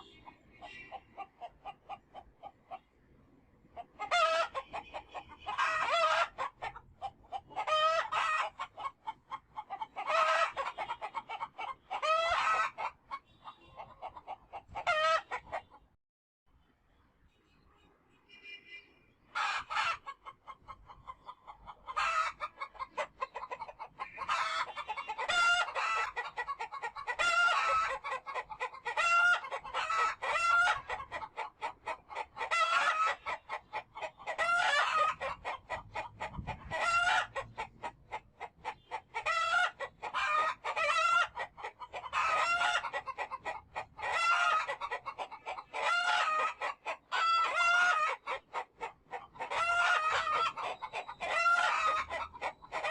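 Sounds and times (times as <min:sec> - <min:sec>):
chickens clucking: 0:00.0 - 0:15.9, 0:19.3 - 0:52.9.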